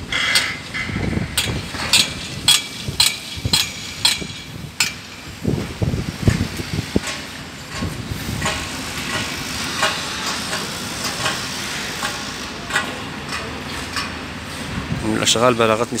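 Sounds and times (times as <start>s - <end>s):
construction knocks and clanks: 0.0s - 15.0s
steady outdoor hiss: 0.0s - 16.0s.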